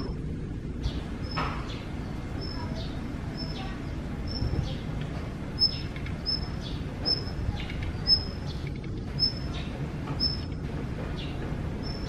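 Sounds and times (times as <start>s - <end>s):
low rumble of background noise: 0.0s - 12.0s.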